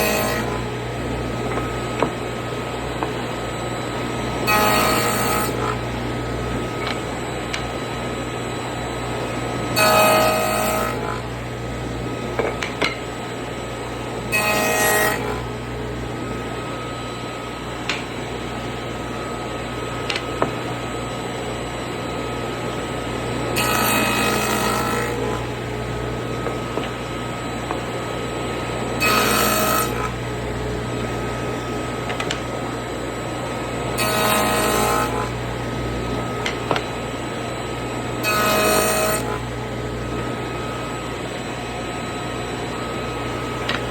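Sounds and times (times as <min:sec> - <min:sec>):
table saw cutting wood: 0:00.0 - 0:43.9.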